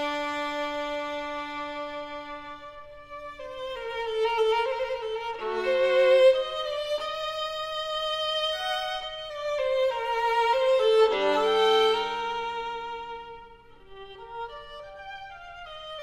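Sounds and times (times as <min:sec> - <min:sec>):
slow violin melody: 0:00.0 - 0:16.0.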